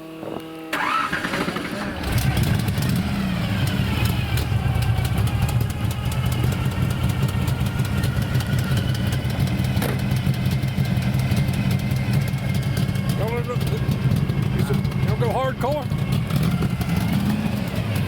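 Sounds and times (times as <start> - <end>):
car engine idling: 0.8 - 18.0.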